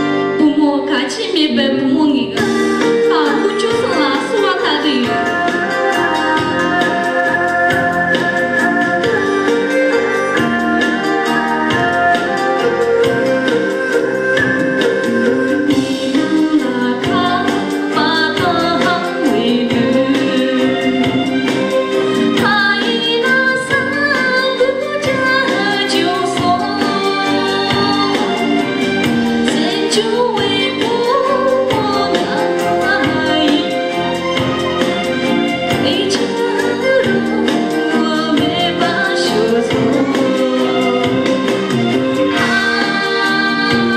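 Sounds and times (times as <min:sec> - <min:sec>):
woman singing into a microphone: 0:00.0 - 0:43.9.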